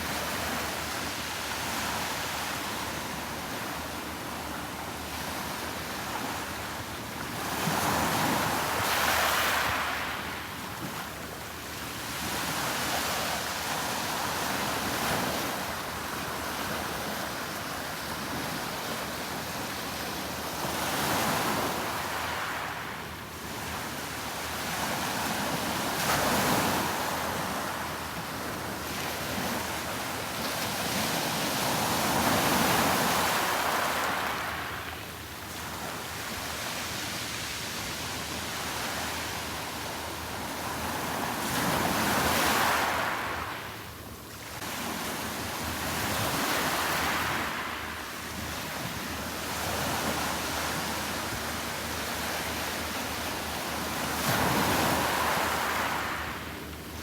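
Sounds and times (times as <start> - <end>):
sea waves breaking on beach: 7.2 - 11.1, 12.0 - 56.8.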